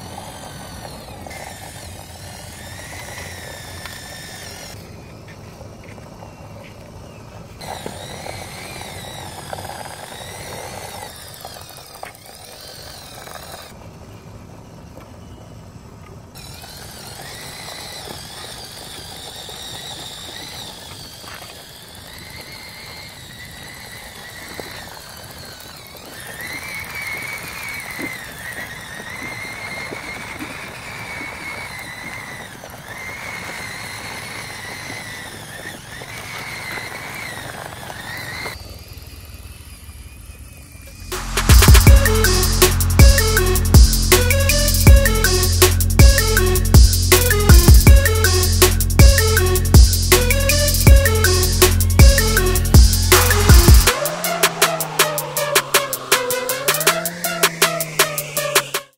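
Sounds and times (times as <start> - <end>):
small electric motor whining: 0.0 - 58.9.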